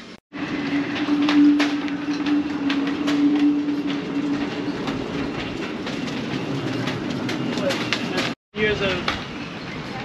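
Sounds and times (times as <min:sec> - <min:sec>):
boat hoist whine: 0:00.0 - 0:08.4.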